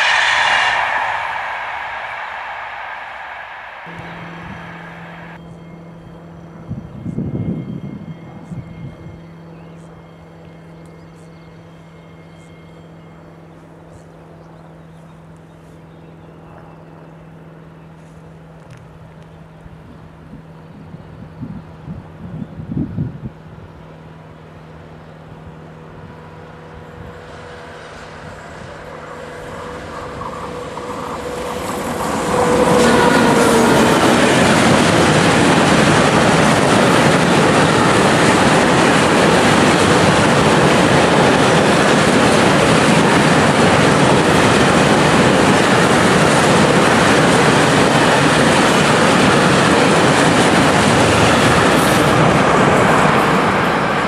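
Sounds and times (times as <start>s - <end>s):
locomotive whine: 0.0s - 54.0s
train rumble: 0.0s - 54.0s.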